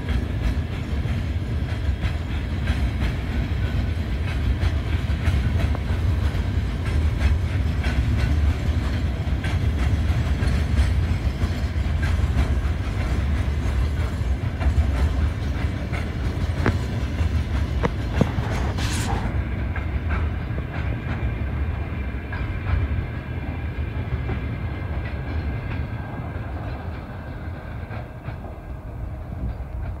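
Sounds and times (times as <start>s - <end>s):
freight train rumble: 0.0s - 30.0s
wheels clicking over rail joints: 0.0s - 30.0s.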